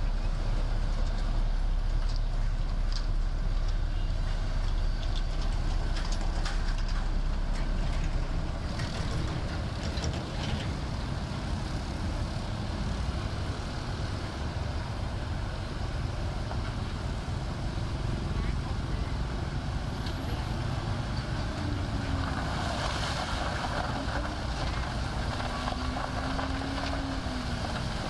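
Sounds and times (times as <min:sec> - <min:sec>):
diesel construction machinery rumbling: 0:00.0 - 0:28.0.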